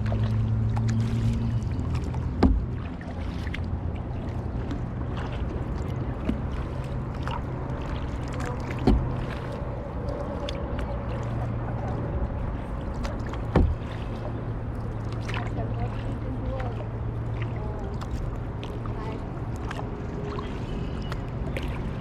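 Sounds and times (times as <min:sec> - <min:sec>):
paddle splashing water: 0:00.0 - 0:22.0.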